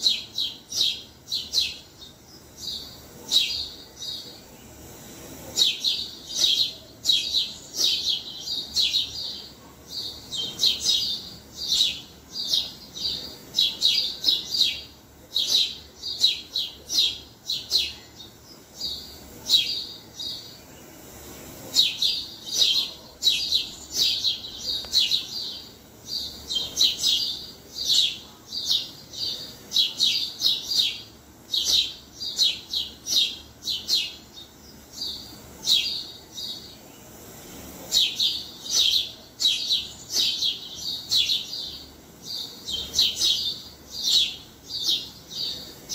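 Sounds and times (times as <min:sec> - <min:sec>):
sparrows chirping: 0:00.0 - 0:45.9.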